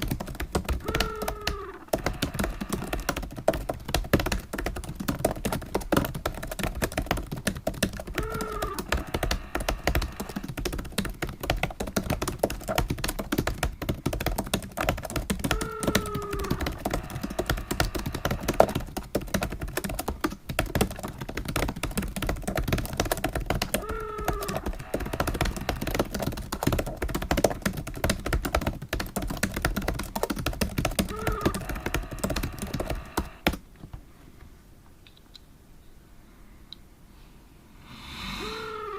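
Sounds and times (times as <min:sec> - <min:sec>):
fast typing on keyboard: 0:00.0 - 0:33.6.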